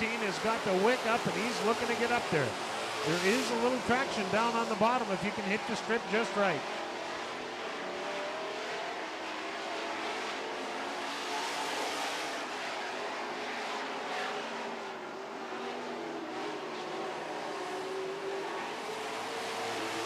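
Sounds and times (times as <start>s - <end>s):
racing truck engines: 0.0s - 20.0s.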